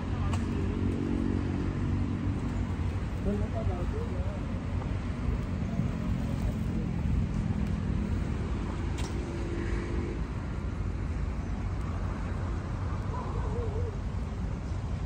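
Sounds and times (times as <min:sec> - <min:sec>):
passing cars rumbling: 0:00.0 - 0:15.0.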